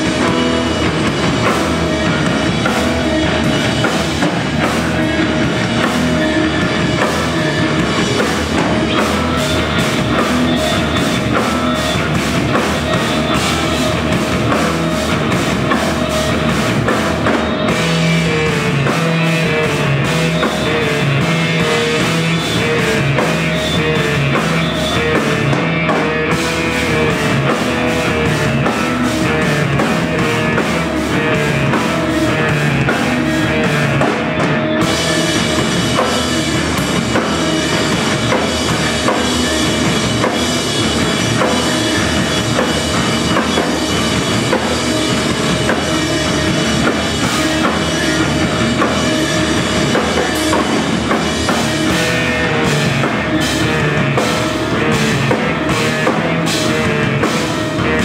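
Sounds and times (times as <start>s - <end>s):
drum kit: 0.0s - 58.0s
electric bass guitar: 0.0s - 58.0s.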